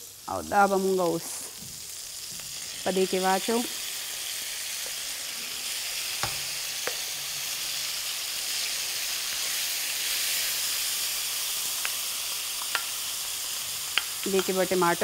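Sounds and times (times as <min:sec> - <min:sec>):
sauce sizzling in hot oil: 0:00.0 - 0:15.0.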